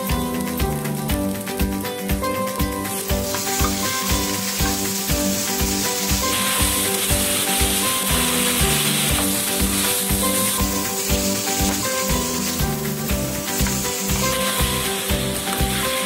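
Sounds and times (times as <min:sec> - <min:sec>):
background music with steady beat: 0:00.0 - 0:16.0
tomatoes sizzling in a pan: 0:00.0 - 0:16.0
spatula stirring pan: 0:01.6 - 0:16.0.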